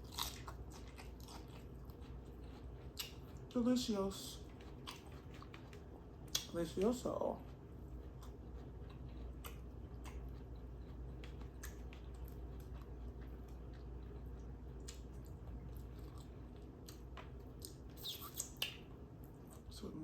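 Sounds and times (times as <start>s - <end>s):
mouth chewing food: 0.0s - 19.8s
steady low hum: 0.0s - 20.0s.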